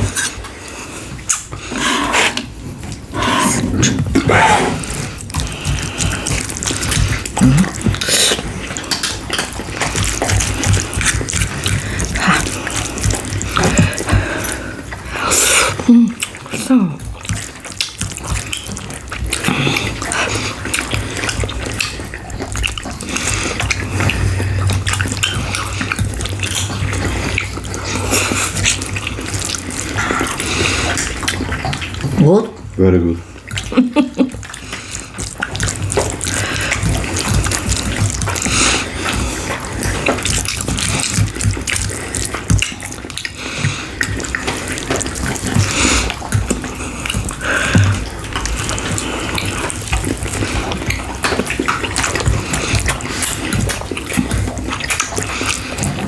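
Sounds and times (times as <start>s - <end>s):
low steady hum: 0.0s - 56.0s
wet chewing and lip-smacking: 0.0s - 56.0s.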